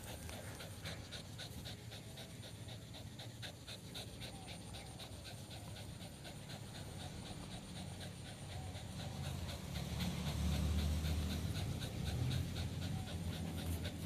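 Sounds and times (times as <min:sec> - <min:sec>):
dog panting fast: 0:00.0 - 0:14.0.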